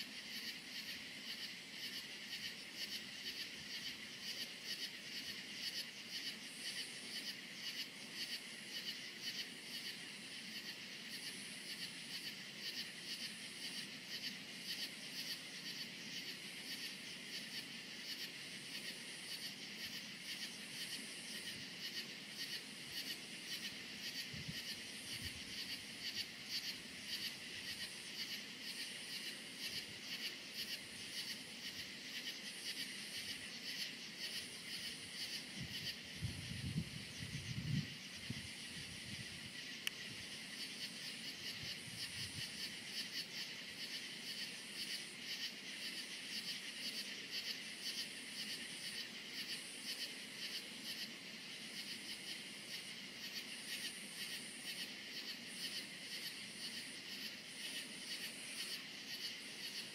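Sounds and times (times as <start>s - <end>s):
crickets chirping: 0.0s - 59.9s
high insect buzz: 0.0s - 59.9s.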